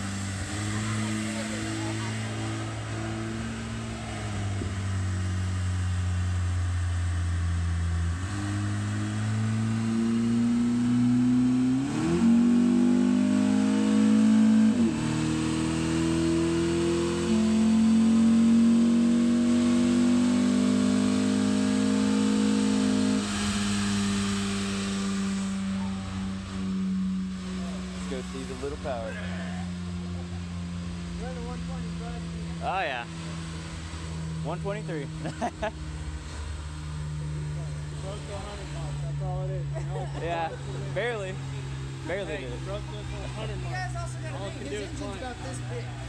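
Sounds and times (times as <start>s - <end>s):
car engine running on dyno: 0.0s - 46.0s.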